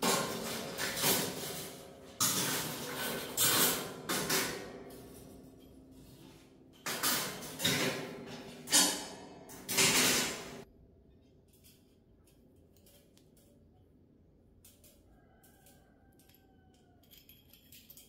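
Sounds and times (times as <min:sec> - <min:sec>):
metal skewers clattering and scraping: 0:00.0 - 0:10.7, 0:11.4 - 0:13.7, 0:14.6 - 0:18.0.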